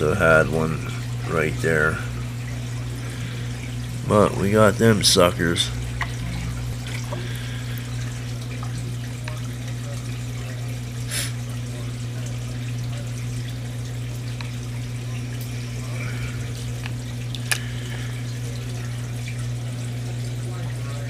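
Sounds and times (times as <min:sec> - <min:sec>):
aquarium pumps humming: 0:00.0 - 0:21.0.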